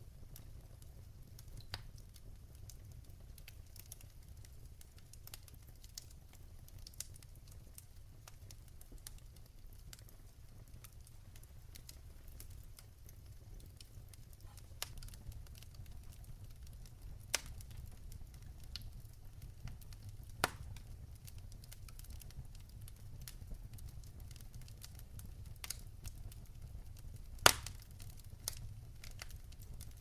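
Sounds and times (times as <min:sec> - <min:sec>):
fire crackling: 0:00.0 - 0:30.0.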